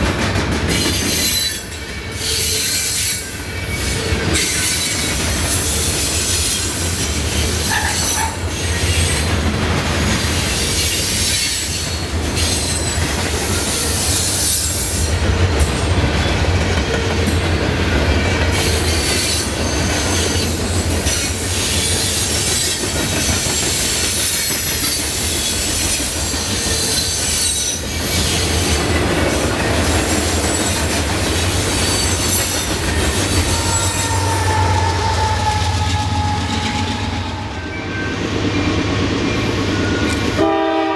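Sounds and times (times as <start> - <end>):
freight train rumbling: 0.0 - 40.9
train wheels squealing: 0.7 - 9.4, 10.0 - 40.4.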